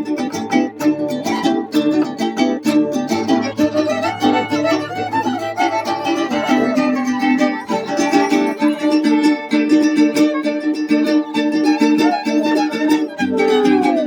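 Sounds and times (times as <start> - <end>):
bowed string melody: 0.0 - 14.0
plucked strings rhythm: 0.0 - 14.0.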